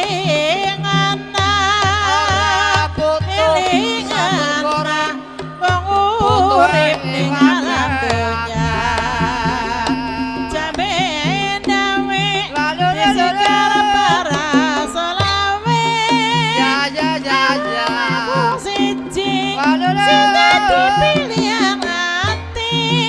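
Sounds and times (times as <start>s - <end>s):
person singing ornamented melody: 0.0s - 23.0s
pitched percussion pattern: 0.0s - 23.0s.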